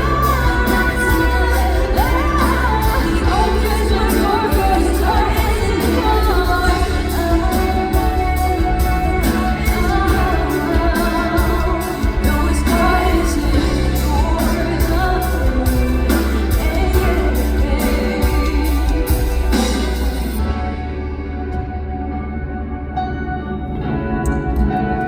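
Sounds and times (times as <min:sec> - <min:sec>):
woman singing: 0:00.0 - 0:20.7
pop song over loudspeakers: 0:00.0 - 0:25.0.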